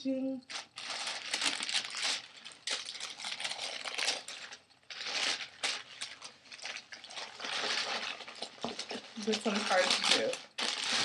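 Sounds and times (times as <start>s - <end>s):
tissue paper rustling and crinkling: 0.5s - 11.0s.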